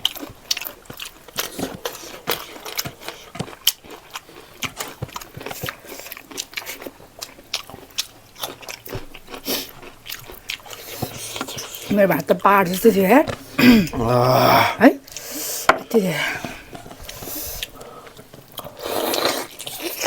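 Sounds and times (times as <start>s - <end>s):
close chewing with wet mouth clicks: 0.0s - 13.6s, 15.0s - 20.0s.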